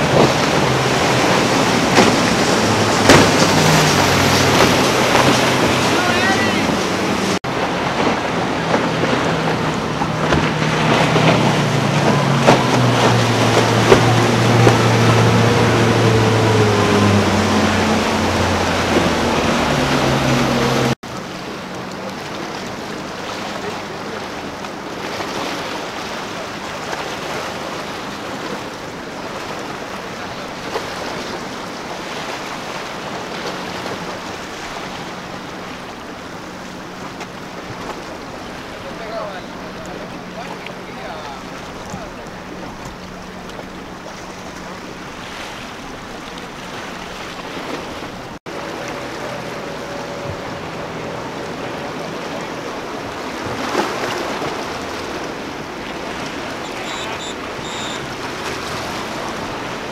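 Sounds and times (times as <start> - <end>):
distant engine drone: 0.0 - 59.9
motorboat engines droning: 0.0 - 59.9
surf: 0.0 - 59.9
water wash: 0.0 - 59.9
wind: 0.0 - 59.9.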